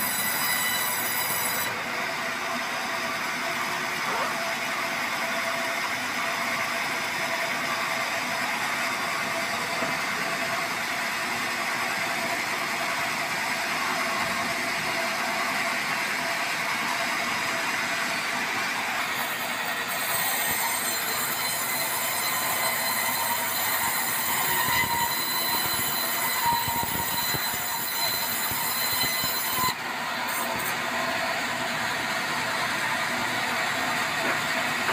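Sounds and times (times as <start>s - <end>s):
band saw cutting log: 0.0s - 34.9s.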